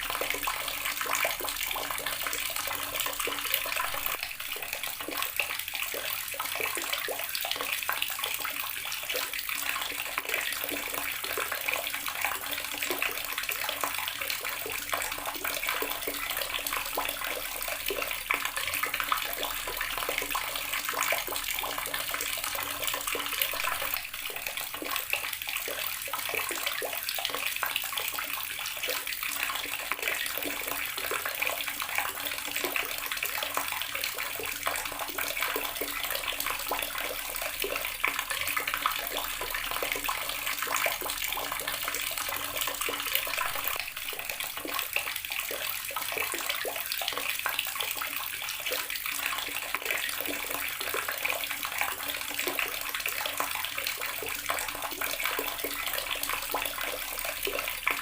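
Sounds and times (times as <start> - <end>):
water splashing from tap: 0.0 - 58.0.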